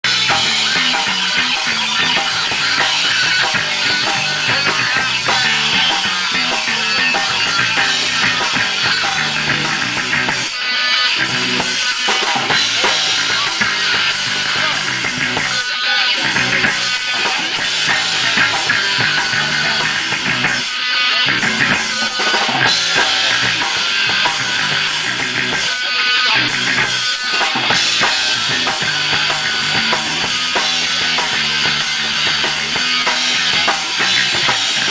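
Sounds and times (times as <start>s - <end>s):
rock band playing loud: 0.0s - 34.9s.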